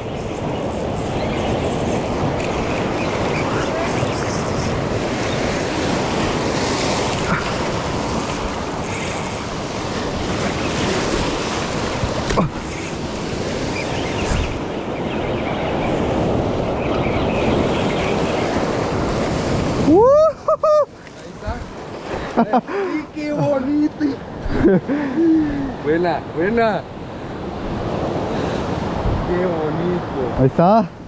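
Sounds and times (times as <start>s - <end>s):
wind buffeting microphone: 0.0s - 20.5s, 24.2s - 30.4s
surf breaking on rocky shore: 0.0s - 30.4s.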